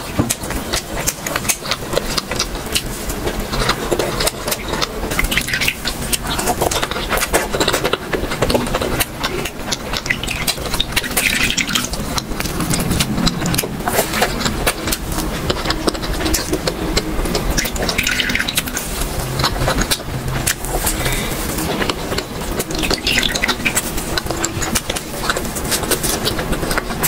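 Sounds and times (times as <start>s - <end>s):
wet chewing: 0.0s - 27.0s
wet mouth clicks and squelches: 0.3s - 27.0s.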